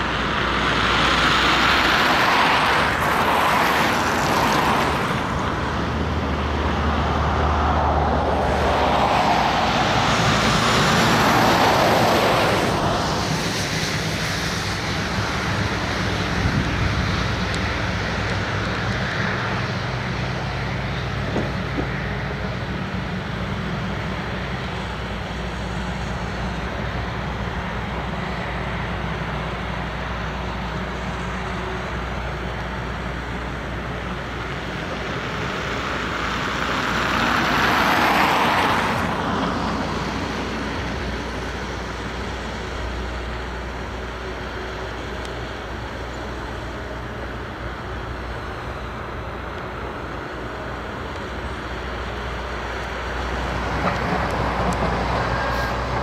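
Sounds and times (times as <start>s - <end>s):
diesel machinery engines running: 0.0s - 56.0s.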